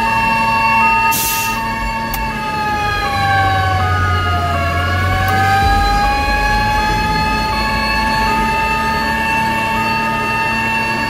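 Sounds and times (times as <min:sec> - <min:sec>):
fire truck siren wailing: 0:00.0 - 0:11.0
two-pitch alternating siren tone: 0:00.0 - 0:11.0
truck engine rumbling: 0:00.8 - 0:11.0.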